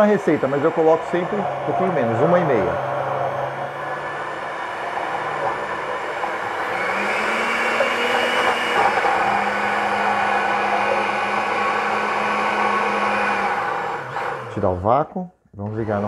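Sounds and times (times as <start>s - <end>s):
blender motor whirring: 0.0s - 14.9s.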